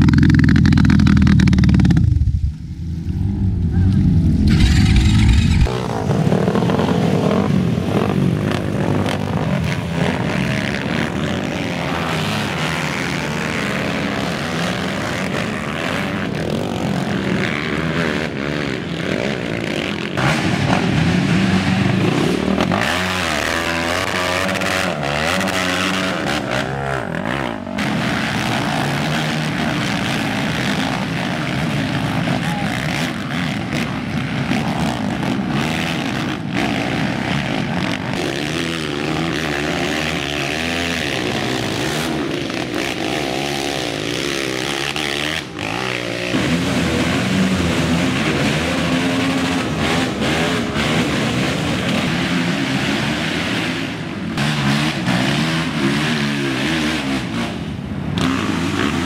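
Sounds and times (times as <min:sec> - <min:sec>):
quad engines revving: 0:00.0 - 0:59.0.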